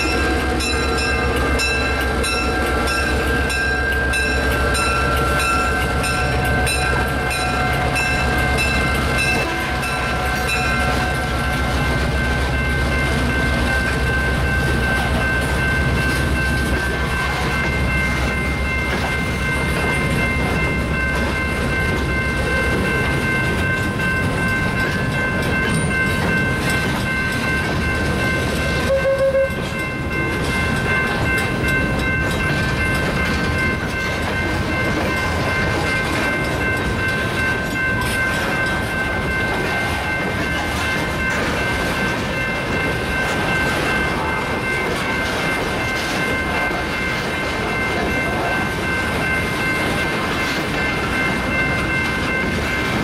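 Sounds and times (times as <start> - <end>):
crossing bell ringing: 0.0 - 53.0
diesel locomotive rumbling: 0.0 - 53.0
wheel-on-rail noise: 0.0 - 53.0.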